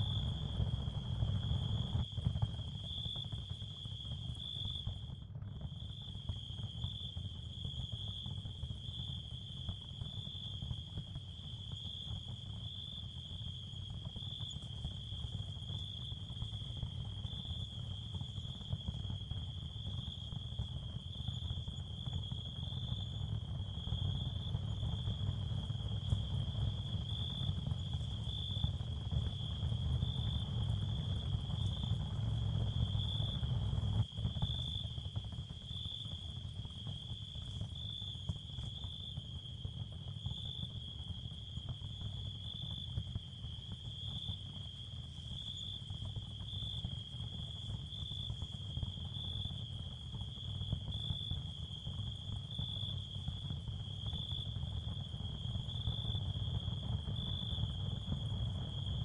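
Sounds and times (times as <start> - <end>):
cricket chorus: 0.0 - 59.0.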